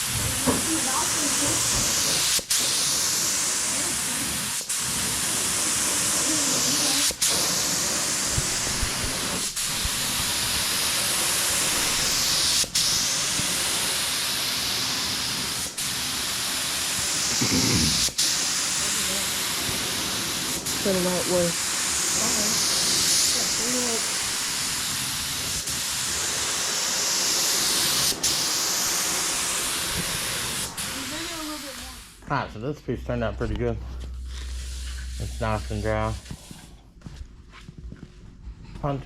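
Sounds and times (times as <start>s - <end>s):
compressed air gun hissing: 0.0s - 32.2s, 34.3s - 36.6s.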